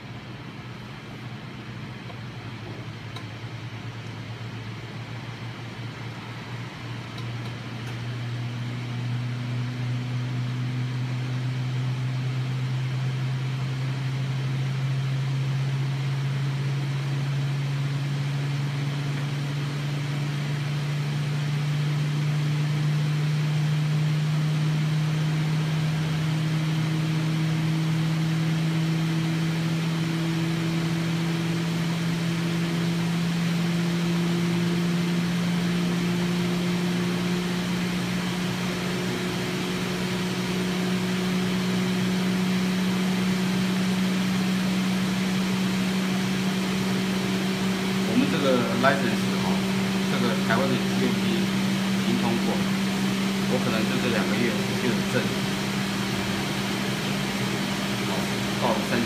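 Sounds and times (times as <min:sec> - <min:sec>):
centrifuge motor hum rising: 0:00.0 - 0:59.0.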